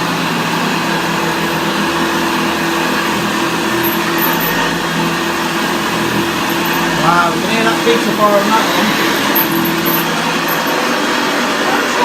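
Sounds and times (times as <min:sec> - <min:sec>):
upright vacuum cleaner running: 0:00.0 - 0:12.0.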